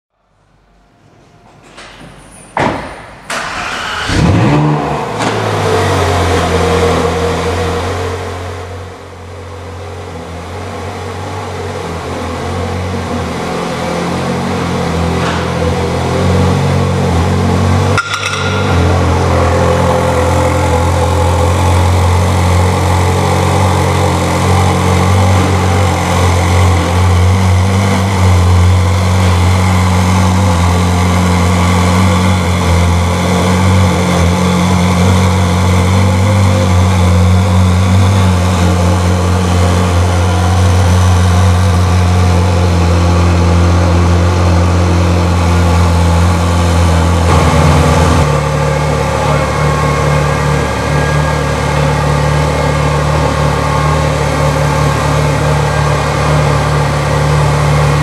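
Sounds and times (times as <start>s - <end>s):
car engine starting and idling: 0.3s - 58.0s.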